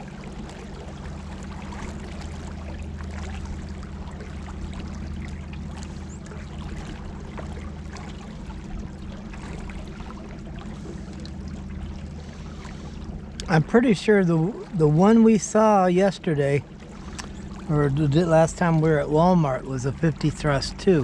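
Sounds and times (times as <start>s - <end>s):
water splashing along hull: 0.0s - 21.0s.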